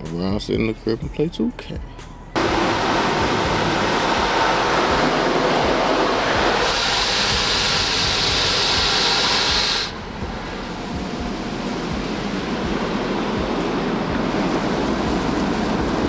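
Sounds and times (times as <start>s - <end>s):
bright hiss: 2.4s - 16.0s
wind and road noise in car: 2.4s - 16.0s.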